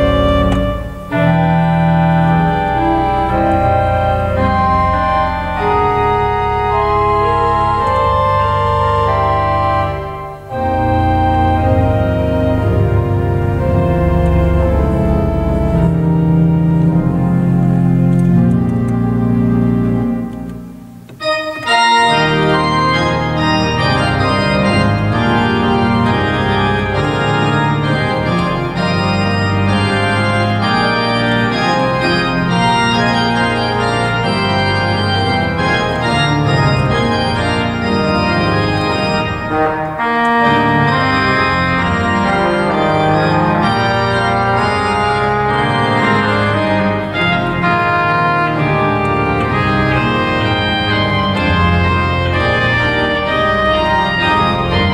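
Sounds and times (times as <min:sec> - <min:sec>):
pipe organ chords: 0:00.0 - 0:54.9.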